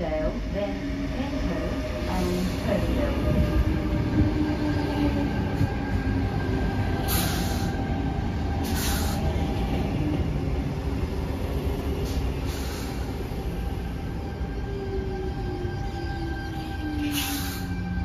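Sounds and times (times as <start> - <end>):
train carriages rumbling: 0.0 - 18.0.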